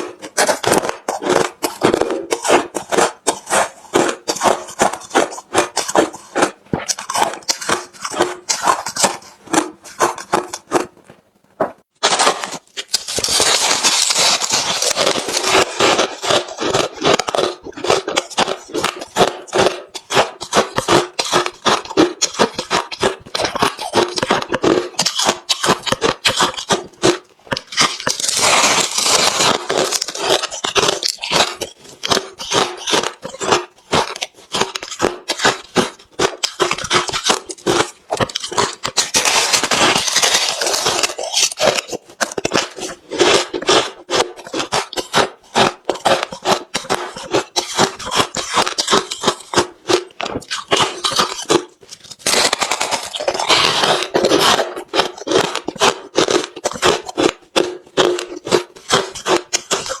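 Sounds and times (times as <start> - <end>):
ice being chewed: 0.0 - 60.0.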